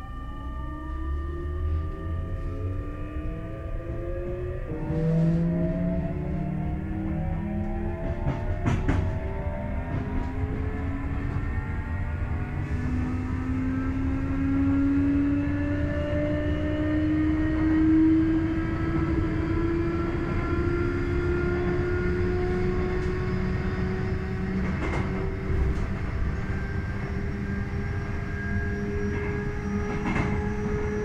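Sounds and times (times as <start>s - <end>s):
train motors whining rising pitch: 0.0s - 31.0s
wheels rumbling on track: 1.0s - 31.0s.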